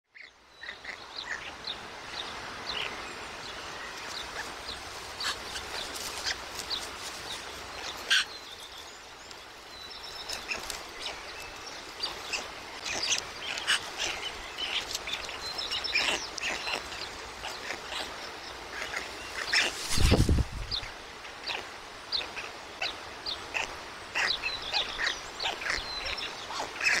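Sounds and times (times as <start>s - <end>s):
bird chirps and calls: 0.1s - 27.0s
outdoor background hiss: 0.1s - 27.0s.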